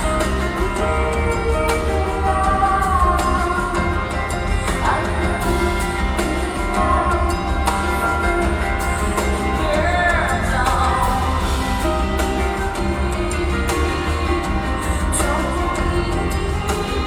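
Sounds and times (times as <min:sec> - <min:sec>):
live rock-pop band: 0:00.0 - 0:17.0
woman singing: 0:00.0 - 0:17.0.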